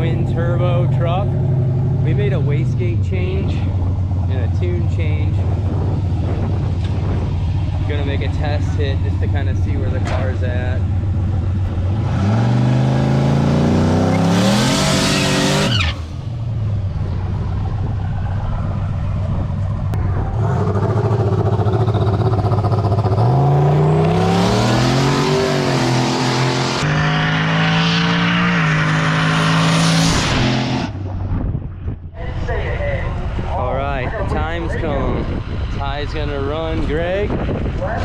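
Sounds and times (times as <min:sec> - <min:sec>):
truck engine idling and revving: 0:00.0 - 0:38.0.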